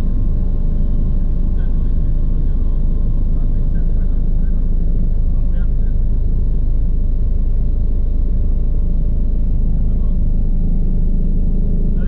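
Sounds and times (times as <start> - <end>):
faint steady whining tones: 0.0 - 12.0
helicopter rotor and engine drone: 0.0 - 12.0.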